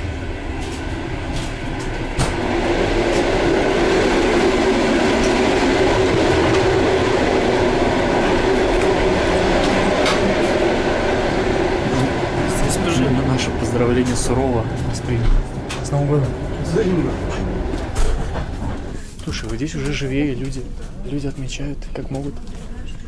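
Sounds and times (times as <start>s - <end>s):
steady drone: 0.0s - 21.2s
train wheels rumbling on rails: 0.0s - 23.0s.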